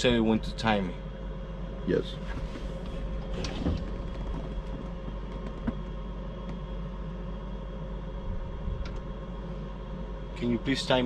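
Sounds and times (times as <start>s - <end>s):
vehicle hum with low rumble: 1.6s - 11.0s.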